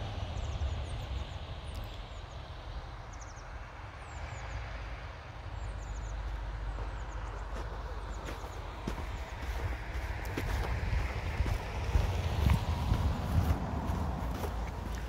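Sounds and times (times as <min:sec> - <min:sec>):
small birds chirping: 0:00.3 - 0:04.6, 0:05.5 - 0:15.0.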